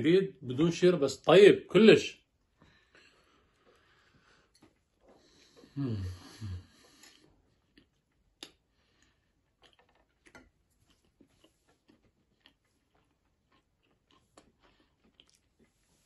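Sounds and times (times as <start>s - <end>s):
chewing crusty bread: 3.0s - 16.0s.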